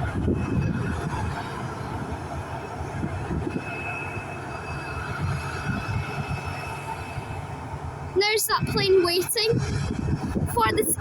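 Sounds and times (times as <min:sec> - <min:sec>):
high engine whine: 0:00.0 - 0:11.0
jet engines rumbling: 0:00.0 - 0:11.0.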